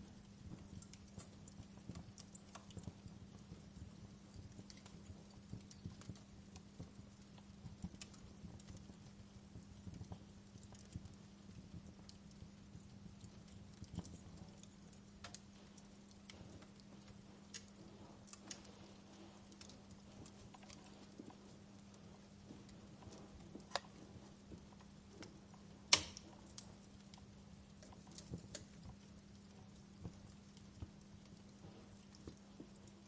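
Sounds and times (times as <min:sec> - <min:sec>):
faint low hum: 0:00.0 - 0:33.0
wood fire crackling: 0:00.0 - 0:33.0.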